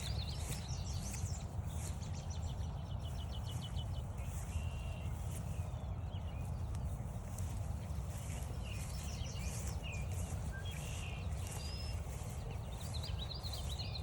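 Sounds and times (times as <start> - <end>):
footsteps on a trail: 0.0 - 14.0
low microphone rumble: 0.0 - 14.0
songbirds chirping: 0.0 - 14.0.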